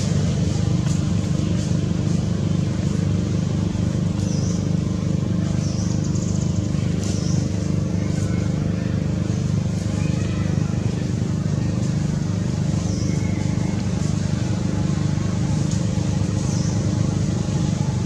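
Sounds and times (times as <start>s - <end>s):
low mechanical drone: 0.0s - 18.0s.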